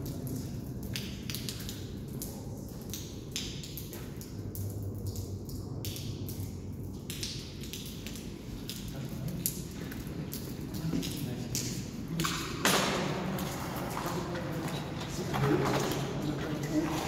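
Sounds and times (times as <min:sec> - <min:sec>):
water rumbling in culvert: 0:00.0 - 0:17.0
water splashes and drips: 0:00.0 - 0:17.0.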